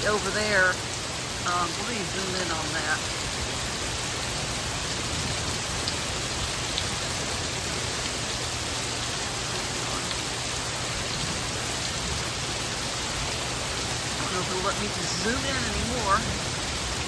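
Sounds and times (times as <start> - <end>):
floodwater and rain hissing: 0.0 - 17.0.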